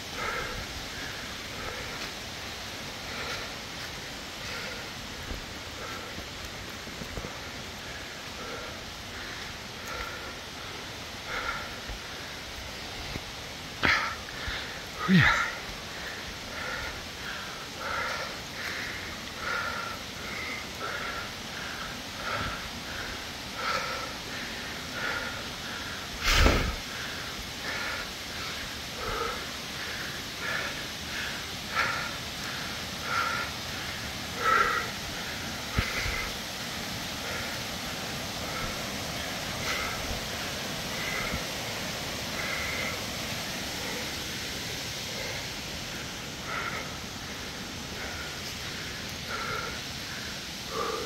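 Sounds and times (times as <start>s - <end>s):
waterfall and stream rushing: 0.0s - 51.0s
heavy breathing: 0.1s - 51.0s.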